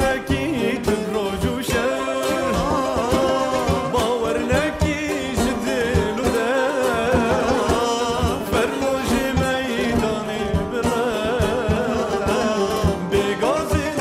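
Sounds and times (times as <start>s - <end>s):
drum beat: 0.0s - 14.0s
person singing folk melody: 0.0s - 14.0s.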